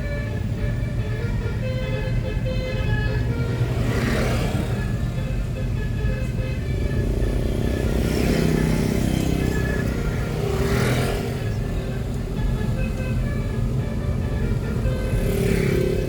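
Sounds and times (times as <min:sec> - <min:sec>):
vehicle engine running: 0:00.0 - 0:16.0
vehicles swishing past: 0:00.0 - 0:16.0.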